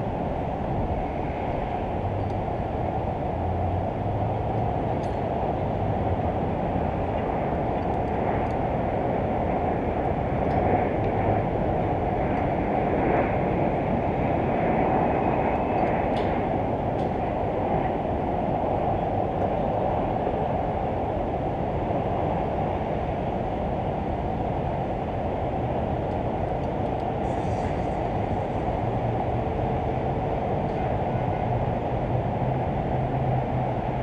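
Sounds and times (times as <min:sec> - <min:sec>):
distant city traffic rumble: 0:00.0 - 0:34.0
wind over microphone: 0:00.0 - 0:34.0.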